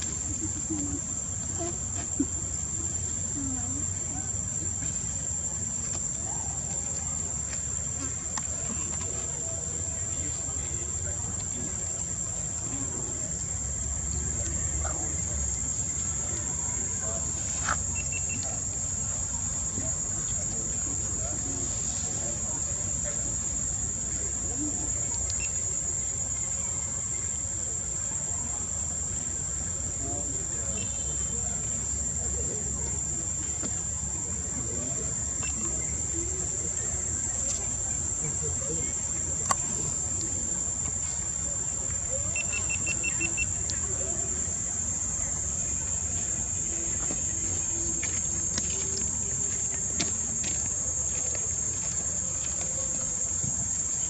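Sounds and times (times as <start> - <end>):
insect chorus drone: 0.0 - 54.0.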